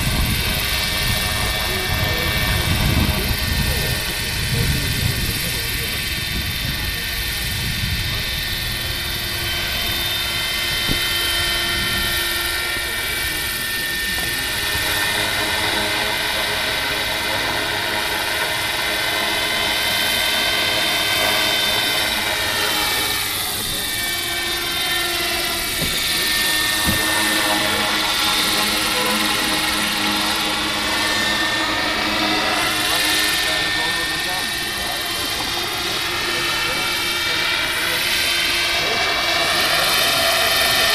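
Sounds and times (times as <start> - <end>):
model helicopter rotor whine: 0.0 - 40.9.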